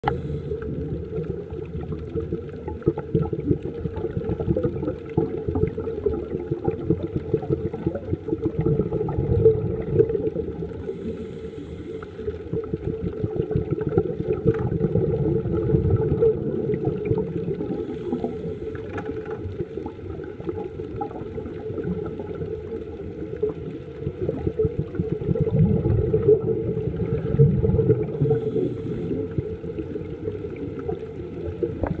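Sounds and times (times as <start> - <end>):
underwater rumble of moving water: 0.0 - 32.0.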